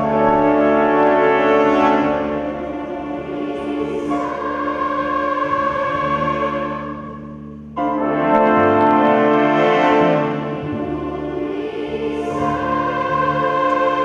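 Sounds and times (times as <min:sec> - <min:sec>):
orchestra playing sustained chords: 0:00.0 - 0:14.0.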